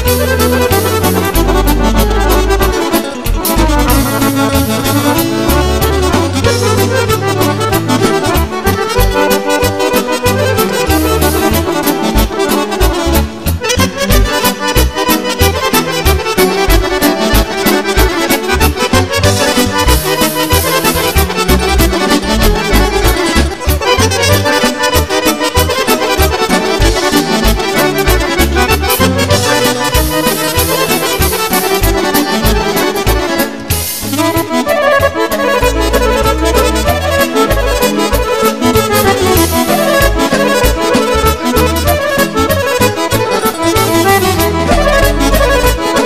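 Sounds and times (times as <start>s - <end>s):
accordion folk music: 0.0s - 46.0s
pulsing bass beat: 0.0s - 46.0s.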